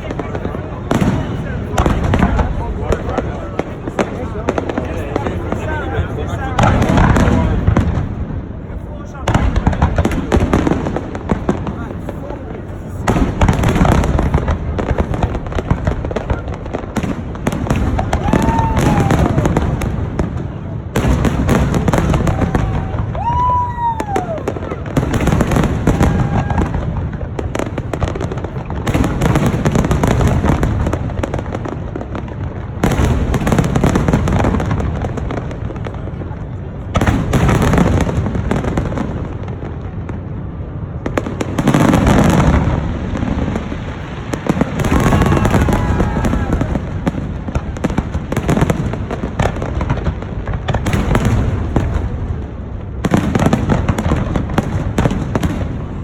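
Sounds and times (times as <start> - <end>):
fireworks bursting with loud bangs: 0.0 - 56.0
fireworks crackle: 0.0 - 56.0.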